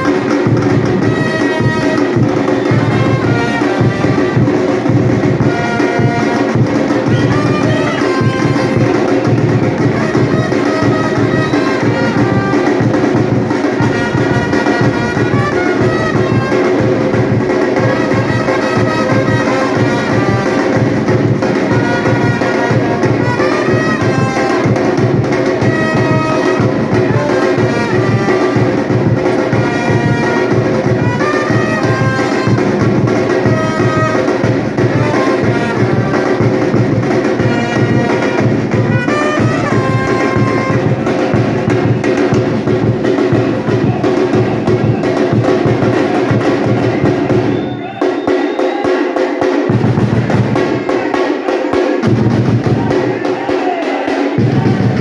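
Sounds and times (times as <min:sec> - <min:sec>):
brass melody: 0:00.0 - 0:48.4
drum ensemble fast beat: 0:00.0 - 0:55.0.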